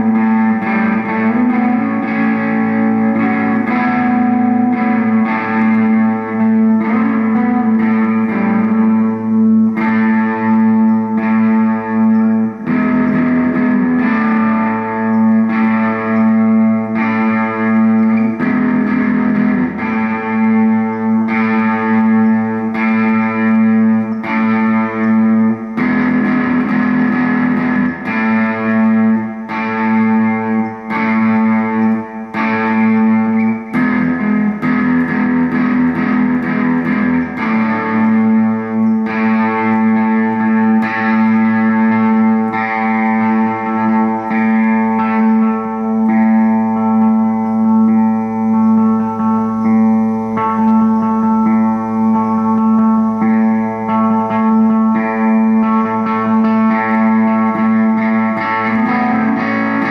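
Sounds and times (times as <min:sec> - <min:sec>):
distorted electric guitar: 0:00.0 - 0:59.9.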